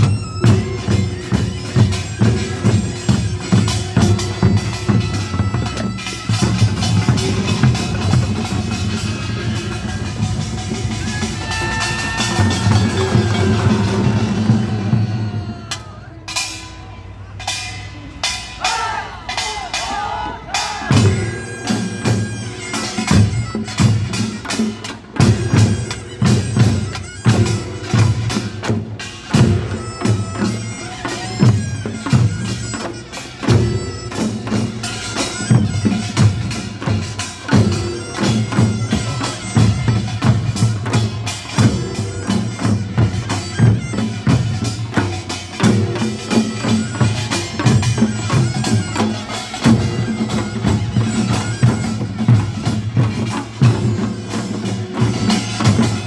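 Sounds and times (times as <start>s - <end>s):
pulsing drum beats: 0.0s - 56.0s
shawm melody: 0.0s - 56.0s.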